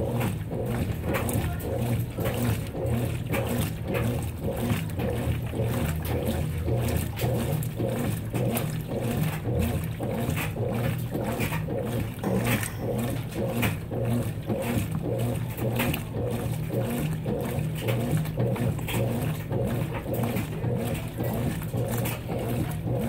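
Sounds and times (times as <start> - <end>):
washing machine motor hum: 0.0 - 23.0
water sloshing and churning: 0.0 - 23.0.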